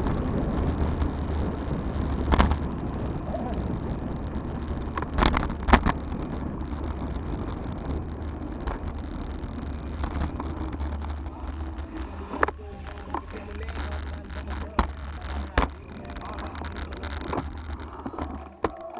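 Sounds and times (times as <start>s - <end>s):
wind buffeting microphone: 0.0s - 18.7s
bicycle road rumble: 0.0s - 18.9s.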